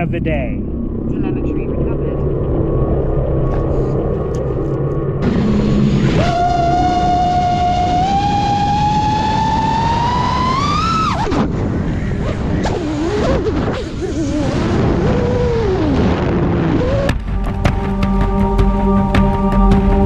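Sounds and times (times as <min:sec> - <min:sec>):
drone motors whining: 0:00.0 - 0:20.0
wind noise rumble: 0:00.0 - 0:20.0.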